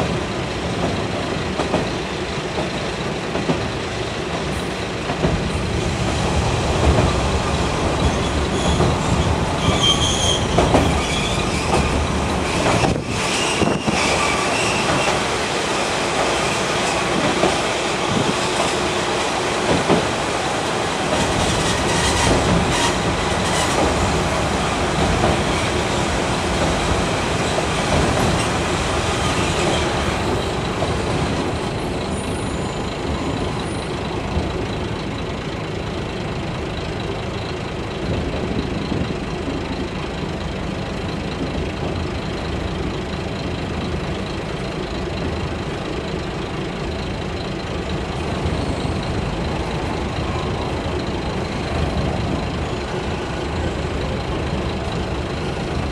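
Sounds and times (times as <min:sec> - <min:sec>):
train engine and rail noise: 0:00.0 - 0:55.9.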